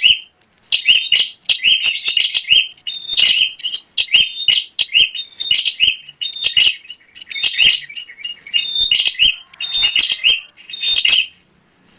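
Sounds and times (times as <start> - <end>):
bird singing high chirps: 0.0 - 11.9.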